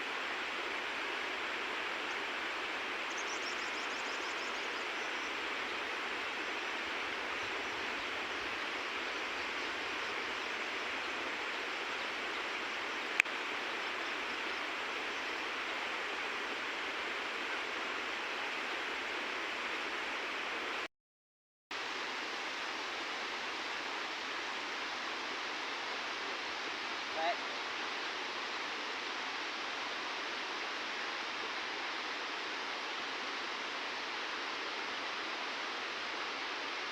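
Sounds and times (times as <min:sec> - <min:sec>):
flowing river water: 0:00.0 - 0:20.9, 0:21.8 - 0:36.9.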